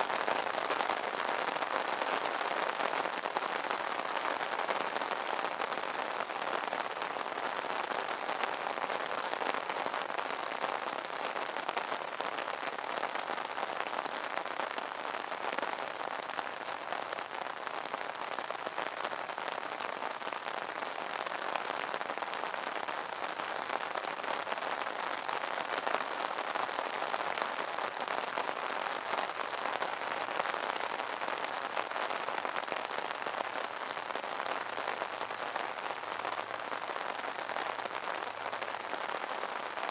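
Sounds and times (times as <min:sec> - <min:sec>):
rain pattering on an umbrella: 0:00.0 - 0:39.9.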